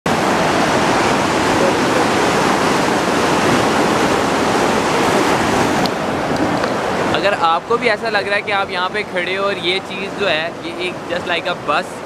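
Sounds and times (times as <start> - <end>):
river rushing over white water: 0.1 - 12.0.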